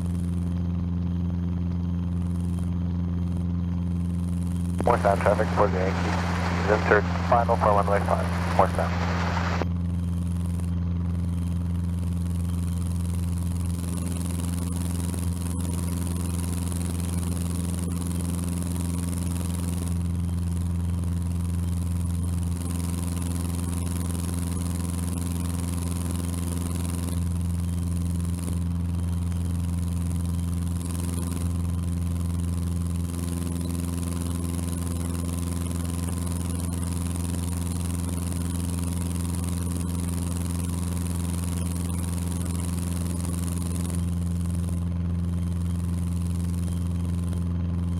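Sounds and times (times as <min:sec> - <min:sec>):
light aircraft engine drone: 0:00.0 - 0:47.9.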